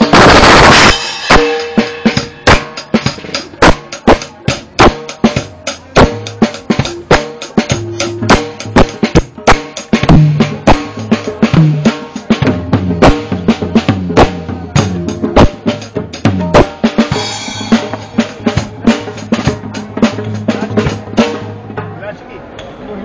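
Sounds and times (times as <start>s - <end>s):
drums played live: 0.0s - 22.1s.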